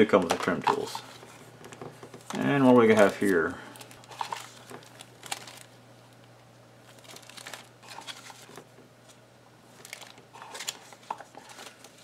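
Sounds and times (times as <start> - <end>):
packaging rustling and crinkling: 0.2 - 5.8, 6.8 - 12.0.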